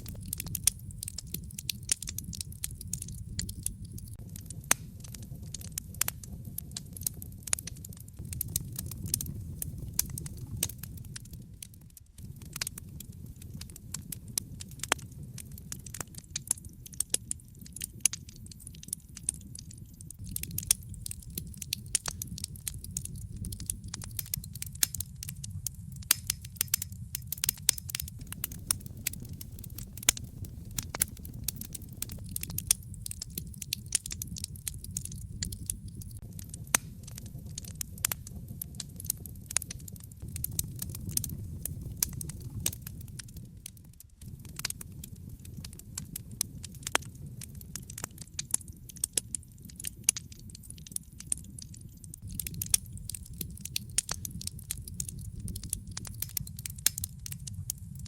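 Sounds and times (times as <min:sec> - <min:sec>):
fire crackling and popping: 0:00.0 - 0:58.0
low rumble of burning fire: 0:00.0 - 0:58.0.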